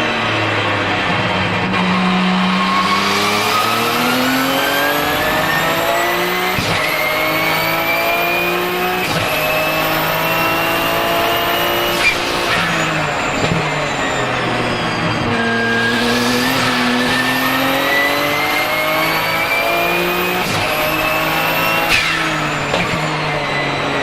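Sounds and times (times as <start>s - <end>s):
race car engine accelerating: 0.0s - 24.0s
turbo whistle: 2.4s - 23.8s.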